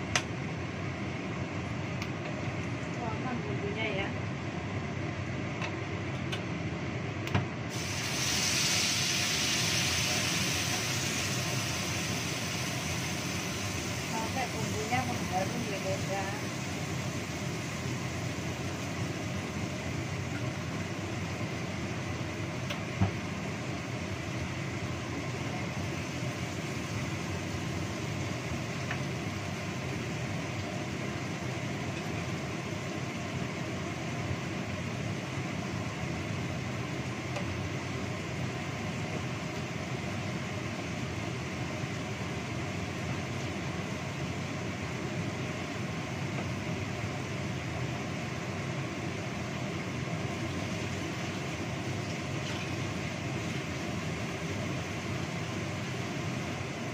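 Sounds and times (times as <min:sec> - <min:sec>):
spice paste sizzling in oil: 0:07.7 - 0:56.9.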